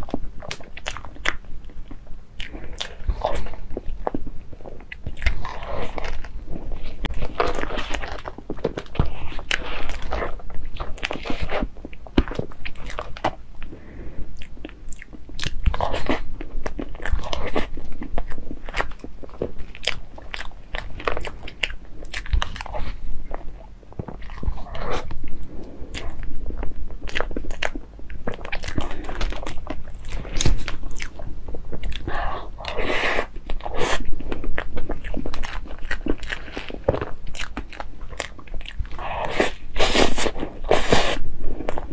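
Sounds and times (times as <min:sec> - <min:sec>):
wet chewing and mouth sounds: 0:00.0 - 0:41.9.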